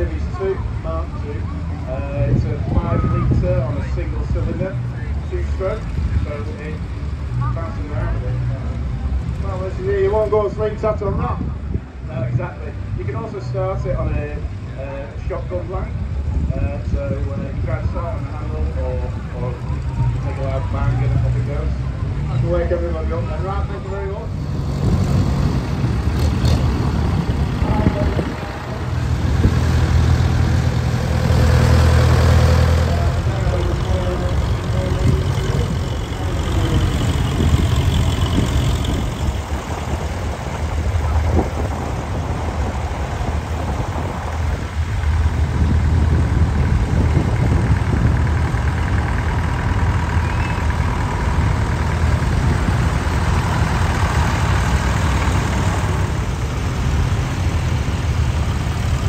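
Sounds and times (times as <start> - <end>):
tractor engines running slowly: 0.0 - 59.0.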